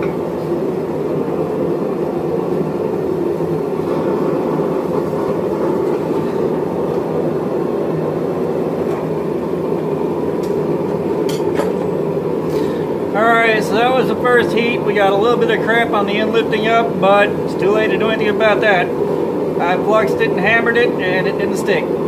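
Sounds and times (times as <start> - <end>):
gas burner rushing: 0.0 - 22.0.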